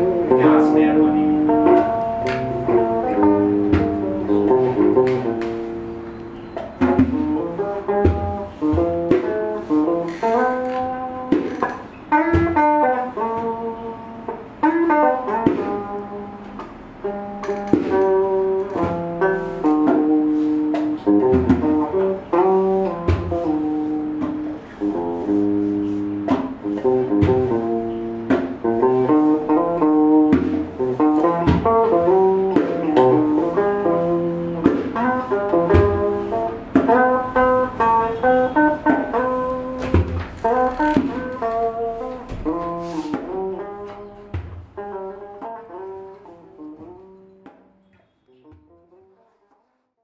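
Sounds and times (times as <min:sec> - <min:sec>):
guitar playing: 0:00.0 - 0:49.7.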